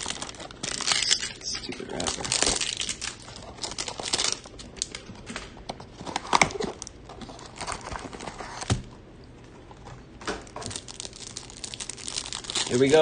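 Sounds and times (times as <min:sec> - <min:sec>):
cardboard and cellophane rustling: 0:00.0 - 0:08.8, 0:09.7 - 0:13.0.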